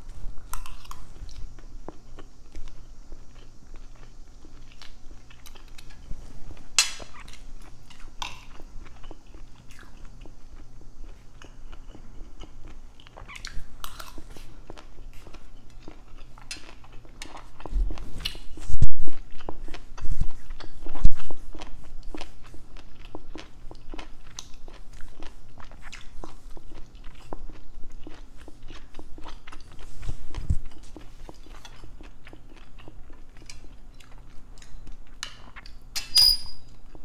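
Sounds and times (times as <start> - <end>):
close chewing: 0.0 - 35.9.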